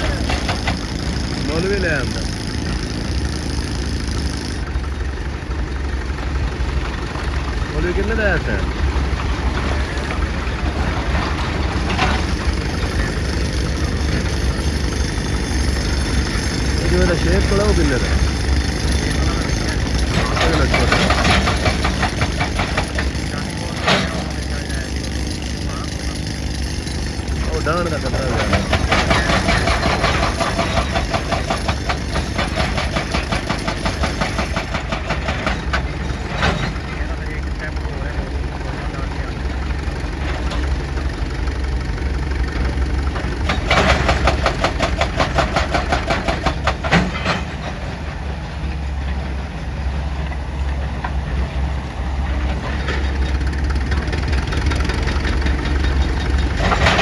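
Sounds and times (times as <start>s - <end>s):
diesel engine rumbling: 0.0s - 57.0s
hydraulic breaker hammering rock: 0.0s - 57.0s.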